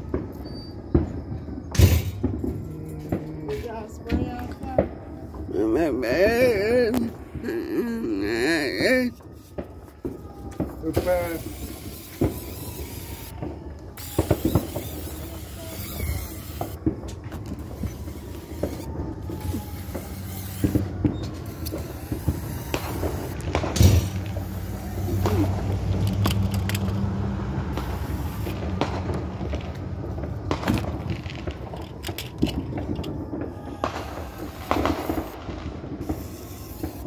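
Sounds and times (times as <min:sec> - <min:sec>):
fireworks bangs and pops: 0:00.0 - 0:37.0.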